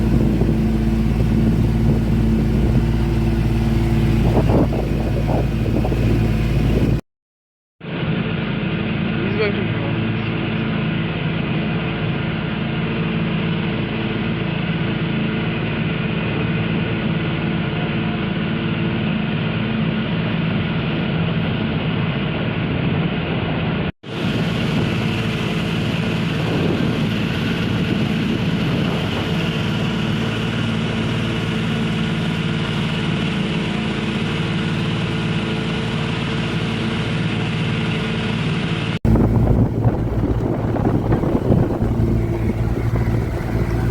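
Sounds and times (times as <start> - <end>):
motorboat engine droning: 0.0 - 7.0, 7.8 - 43.9.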